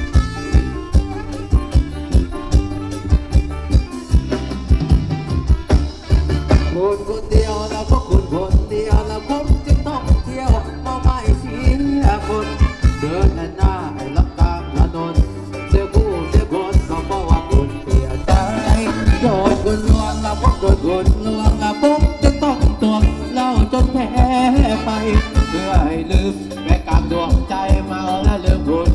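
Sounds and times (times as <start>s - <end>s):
live band music over speakers: 0.0s - 28.9s.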